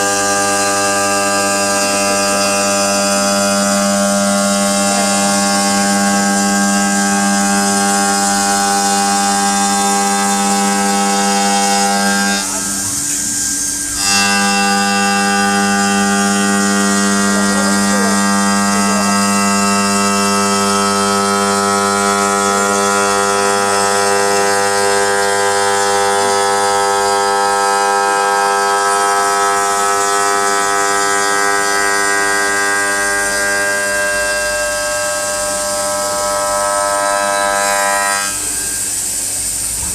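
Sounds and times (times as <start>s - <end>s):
stone cutting machine whining: 0.0s - 39.9s.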